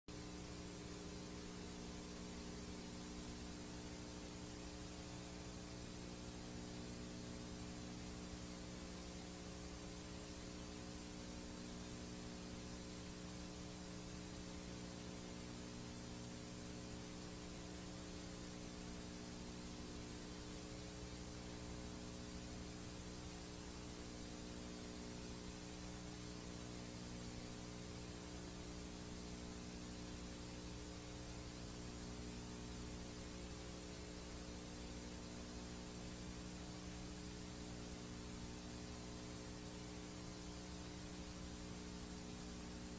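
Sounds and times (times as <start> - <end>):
tape hiss: 0.1 - 42.9.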